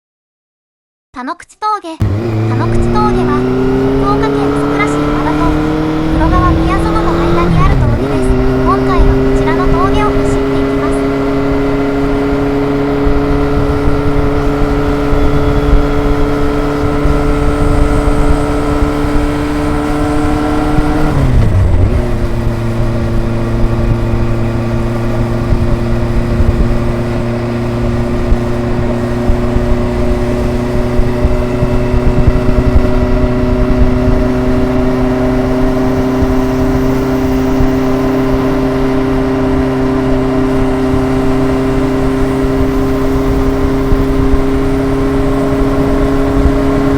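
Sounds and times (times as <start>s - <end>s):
motorcycle engine accelerating: 2.0s - 46.9s.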